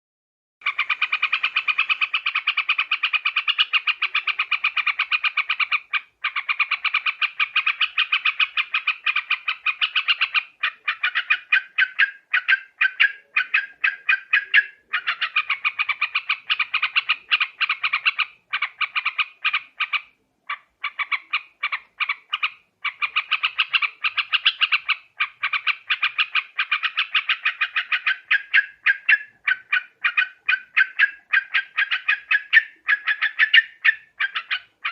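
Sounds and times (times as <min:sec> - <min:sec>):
bird bubbly chattering calls: 0:00.6 - 0:34.9.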